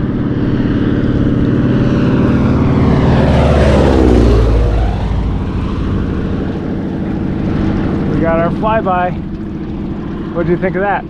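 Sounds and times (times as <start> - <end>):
propeller plane flying overhead: 0.0 - 11.0.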